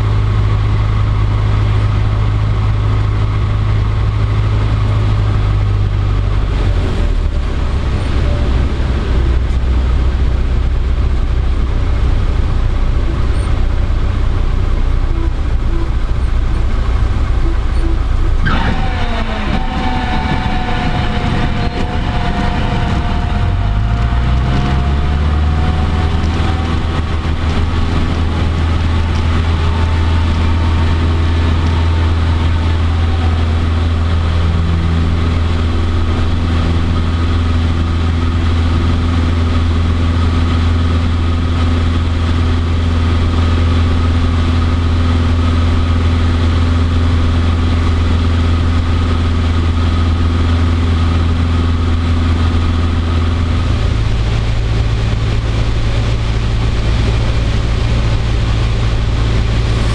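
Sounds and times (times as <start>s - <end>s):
airplane engine droning in cabin: 0.0s - 59.9s.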